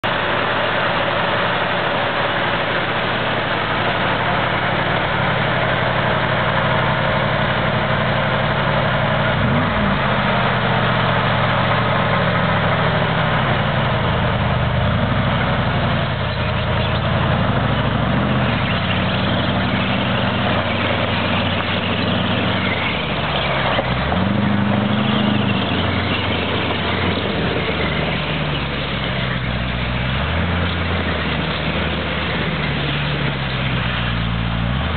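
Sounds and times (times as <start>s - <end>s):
engine revving: 2.6s - 34.9s.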